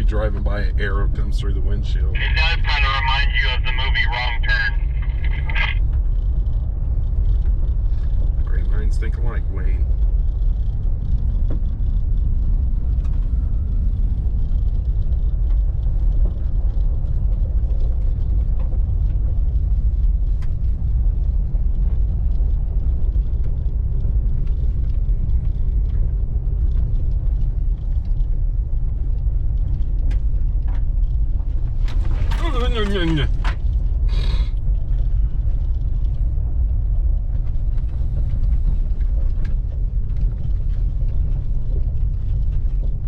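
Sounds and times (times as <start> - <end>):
truck rumbling on dirt trail: 0.0 - 43.0.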